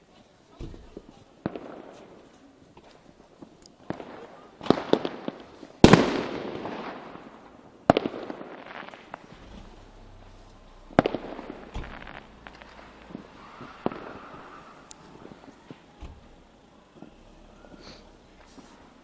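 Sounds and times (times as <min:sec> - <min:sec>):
fireworks bangs: 0:00.5 - 0:19.0
firecracker cracks: 0:00.8 - 0:19.0.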